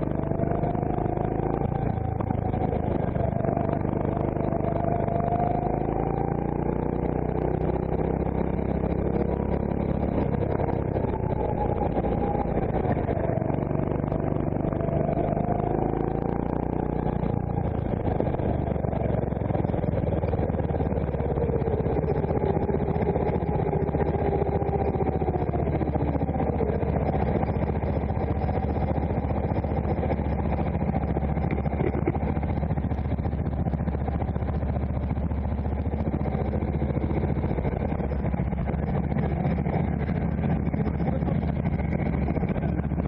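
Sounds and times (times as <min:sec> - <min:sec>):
kart engine revving and idling: 0:00.0 - 0:43.0.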